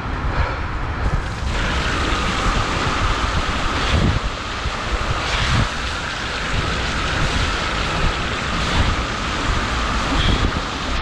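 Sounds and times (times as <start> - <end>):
wind buffeting microphone: 0.0 - 11.0
wheels rolling through water: 1.0 - 11.0.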